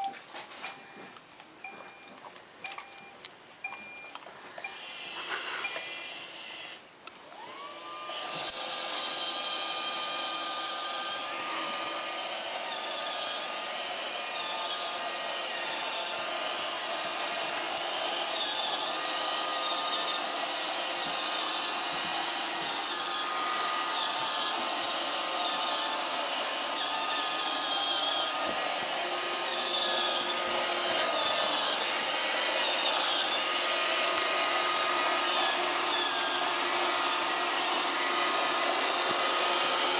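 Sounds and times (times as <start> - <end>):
robot vacuum motor whine: 4.7 - 6.8, 7.4 - 39.9
vacuum and brush noise: 5.0 - 6.2, 7.4 - 39.9.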